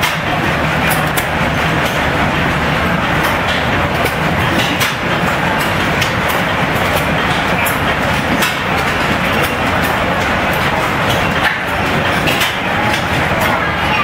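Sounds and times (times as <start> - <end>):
gas engines clattering: 0.0 - 14.0.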